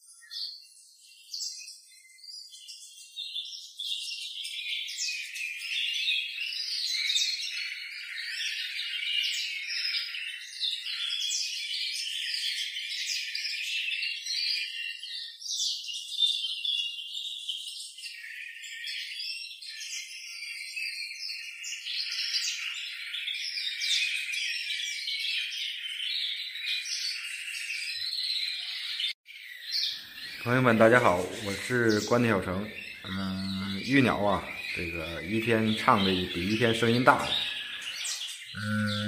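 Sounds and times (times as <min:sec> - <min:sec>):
canaries singing in chorus: 0:00.0 - 0:39.0.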